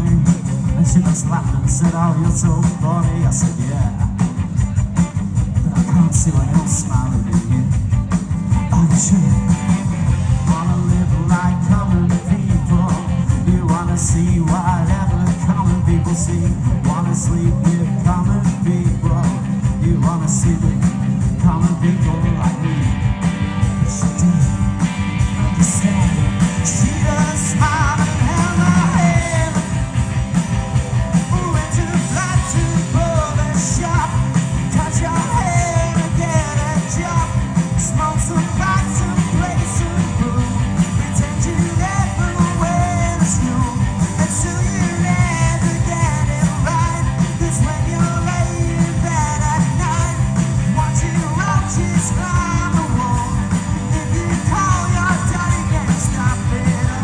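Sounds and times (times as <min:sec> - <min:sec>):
bass: 0:00.0 - 0:57.0
drum beat: 0:00.0 - 0:57.0
electric guitar: 0:00.0 - 0:57.0
lead singer singing: 0:00.0 - 0:57.0.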